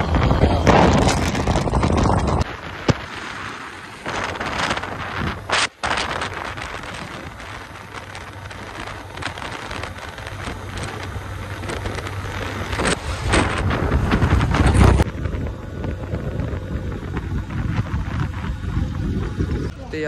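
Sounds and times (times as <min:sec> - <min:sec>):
motorcycle engine hum: 0:00.0 - 0:20.0
wind buffeting microphone: 0:00.0 - 0:20.0.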